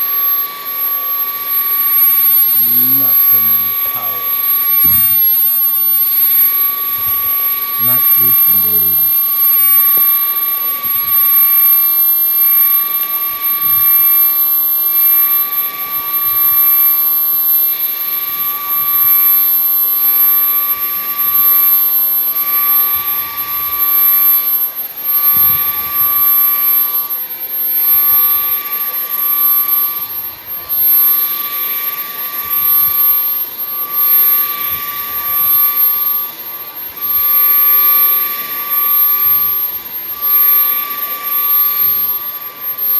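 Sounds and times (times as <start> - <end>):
vacuum cleaner motor whine: 0.0 - 42.9.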